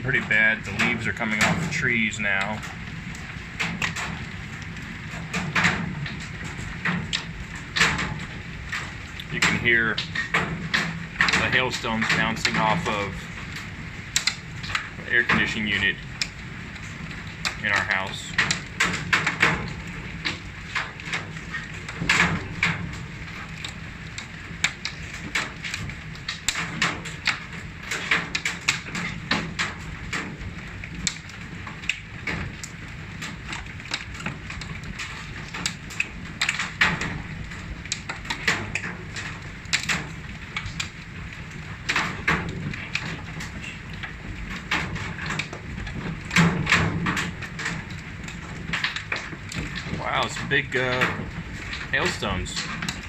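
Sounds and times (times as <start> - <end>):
hail clattering: 0.0 - 53.0
hail hitting metal unit: 0.0 - 53.0
hailstones knocking hard surfaces: 0.0 - 53.0.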